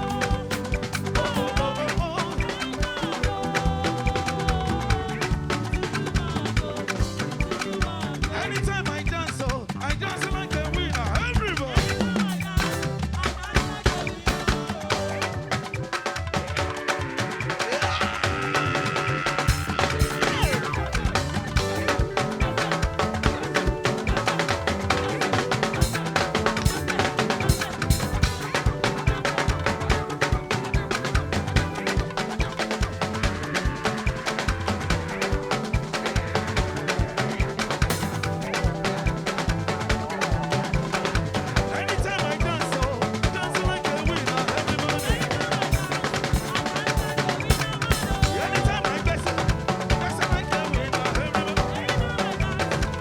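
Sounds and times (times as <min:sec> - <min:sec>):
bass drum beat: 0:00.0 - 0:15.8, 0:18.3 - 0:53.0
live band music: 0:00.0 - 0:53.0.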